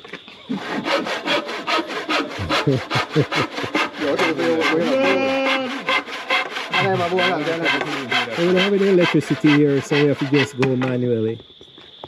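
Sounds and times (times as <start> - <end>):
hand saw cutting wood: 0.5 - 10.9.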